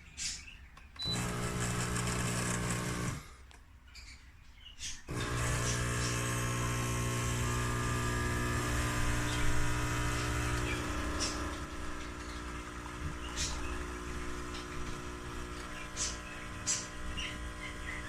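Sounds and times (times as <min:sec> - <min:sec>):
espresso machine pump humming: 0:01.0 - 0:03.3, 0:05.1 - 0:18.0.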